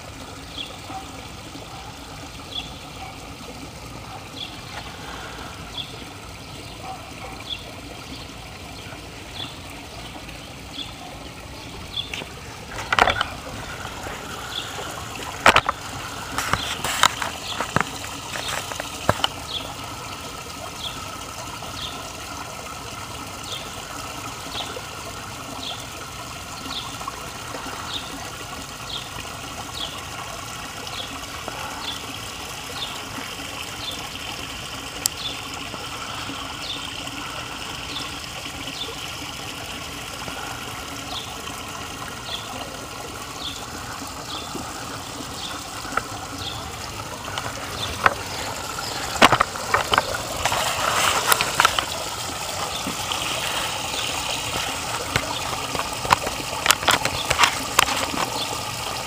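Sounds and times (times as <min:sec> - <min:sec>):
waterfall splashing over rocks: 0:00.0 - 0:59.0.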